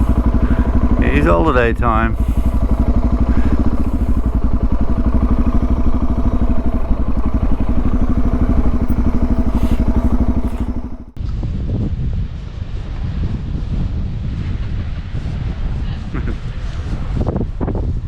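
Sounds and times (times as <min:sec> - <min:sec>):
wind on microphone: 0:00.0 - 0:01.2, 0:01.8 - 0:18.0
motorcycle engine cruising: 0:00.0 - 0:11.6, 0:12.3 - 0:18.0.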